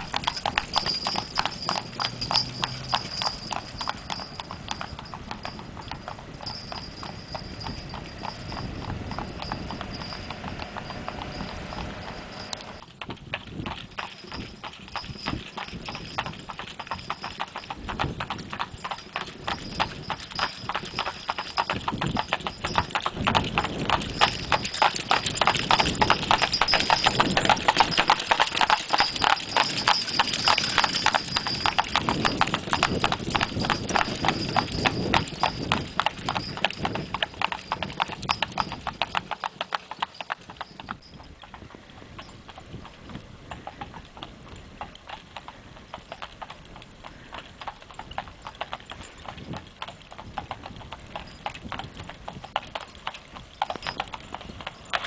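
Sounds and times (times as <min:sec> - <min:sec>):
horse hooves clip-clopping: 0:00.0 - 0:55.0.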